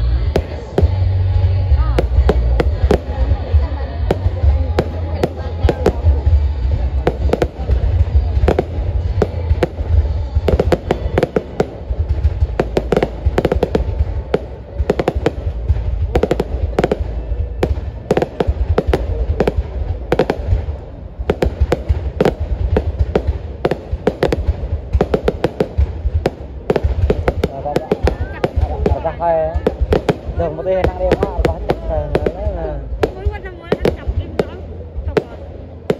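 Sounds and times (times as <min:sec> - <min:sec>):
fireworks bursting and crackling: 0:00.0 - 0:35.9
low rumble of booms: 0:00.0 - 0:35.9.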